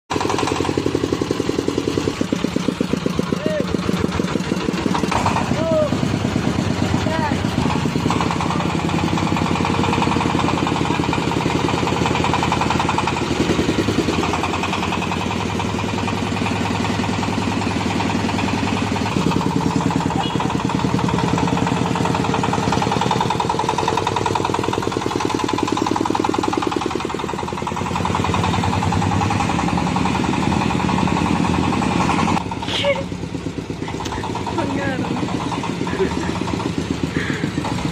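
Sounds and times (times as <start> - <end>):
thresher engine running: 0.1 - 37.9.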